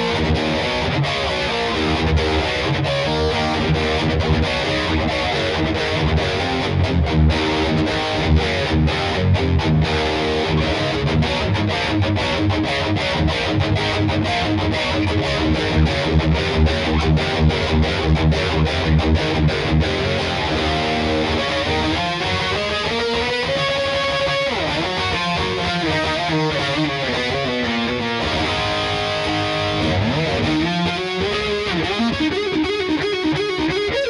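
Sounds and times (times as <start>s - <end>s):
distorted electric guitar riff: 0.0s - 34.0s.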